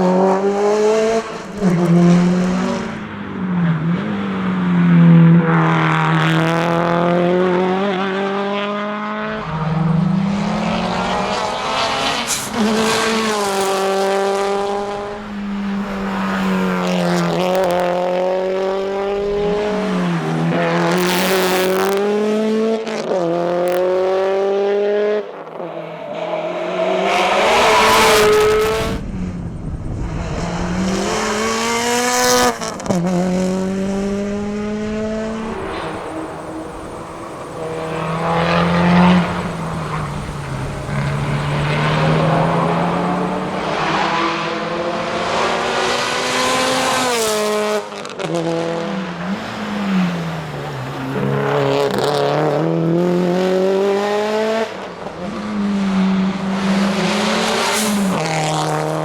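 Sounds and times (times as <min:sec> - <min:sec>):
car engine revving through gears: 0:00.0 - 0:59.0.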